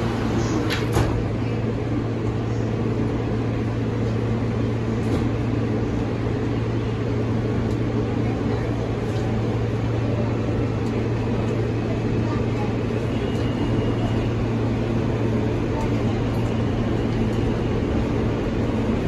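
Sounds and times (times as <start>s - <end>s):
subway car hum and rumble: 0.0s - 19.0s.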